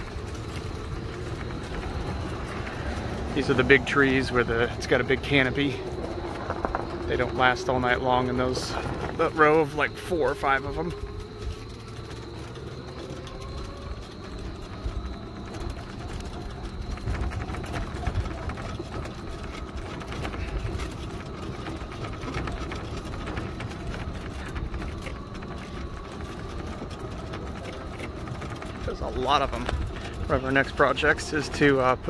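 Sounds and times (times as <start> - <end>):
vehicle rumbling slowly: 0.0 - 32.0.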